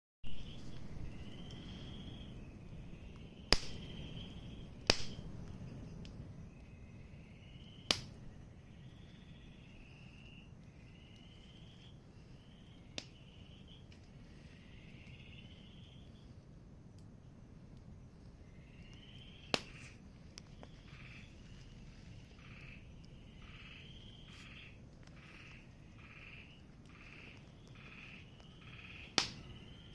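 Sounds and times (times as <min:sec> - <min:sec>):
fire crackling: 0:00.2 - 0:29.9
insects trilling: 0:00.3 - 0:16.4, 0:18.0 - 0:29.9
bonfire wood popping: 0:00.3 - 0:29.9.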